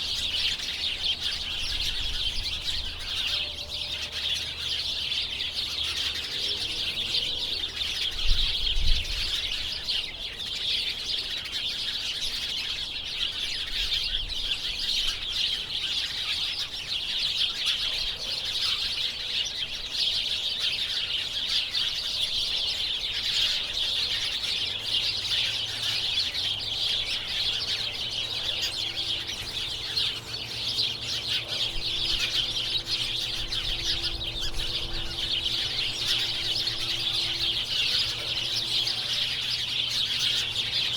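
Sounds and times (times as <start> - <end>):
flock of birds chirping: 0.0 - 40.9.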